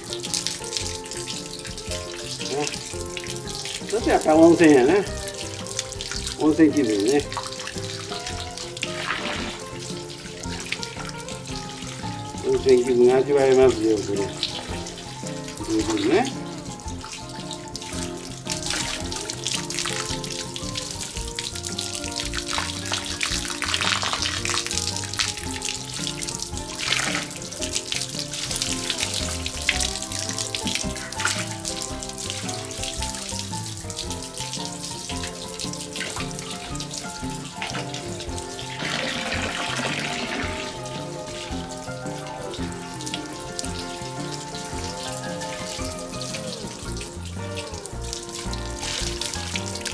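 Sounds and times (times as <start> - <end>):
background music with melody: 0.0 - 49.9
hot water pouring and splashing: 0.0 - 49.9.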